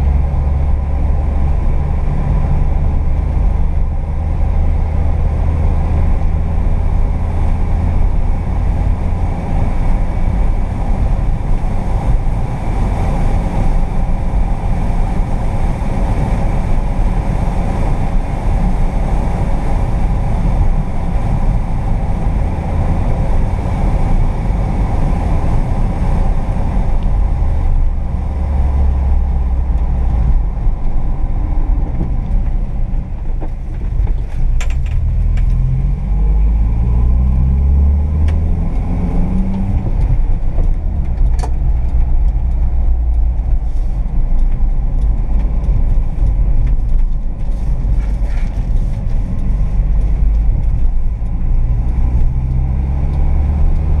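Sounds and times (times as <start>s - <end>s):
road and wind noise: 0.0s - 54.0s
van engine droning: 0.0s - 54.0s.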